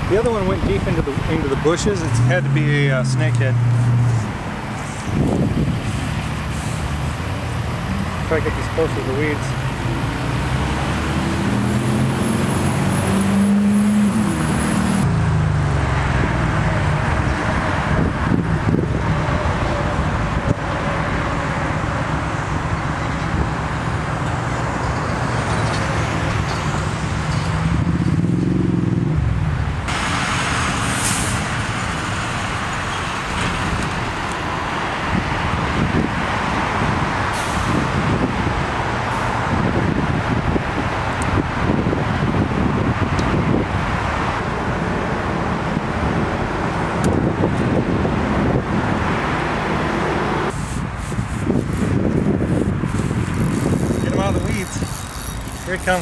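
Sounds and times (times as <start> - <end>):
heavy vehicle engine: 0.0 - 56.0
road traffic noise: 0.0 - 56.0.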